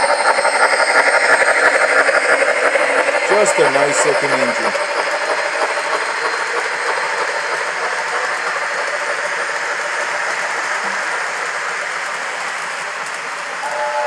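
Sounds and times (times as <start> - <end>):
model train wheels rattling on rail: 0.0 - 13.7.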